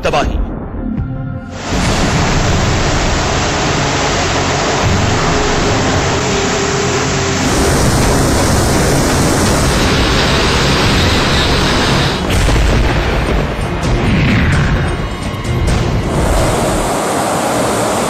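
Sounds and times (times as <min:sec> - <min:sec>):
music: 0:00.1 - 0:17.8
dense rushing noise: 0:01.5 - 0:18.0.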